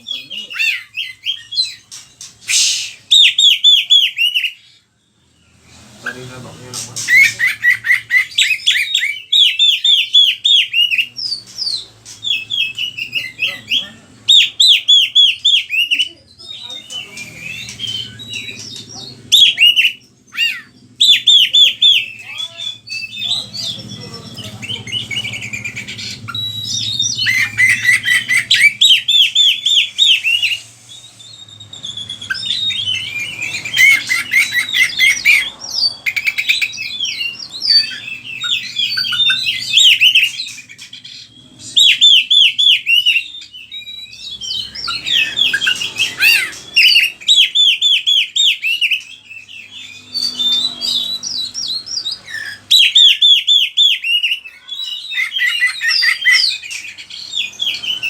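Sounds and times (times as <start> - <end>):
bird singing whistles and trills: 0.0 - 4.9, 7.1 - 58.0.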